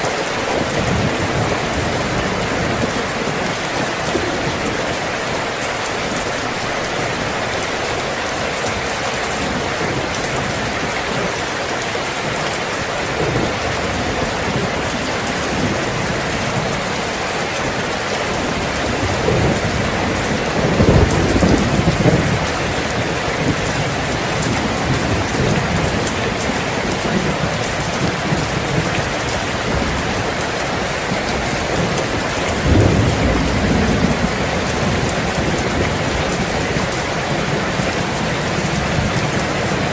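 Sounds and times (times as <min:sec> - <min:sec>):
rain falling: 0:00.0 - 0:39.9
thunder rumbling: 0:00.0 - 0:39.9.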